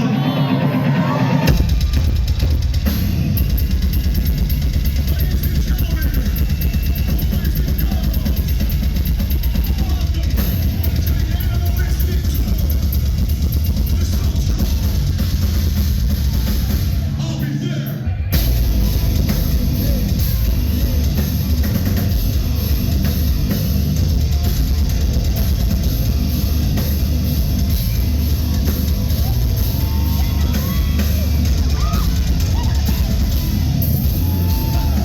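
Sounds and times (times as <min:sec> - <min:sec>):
heavy metal band playing: 0:00.0 - 0:35.0.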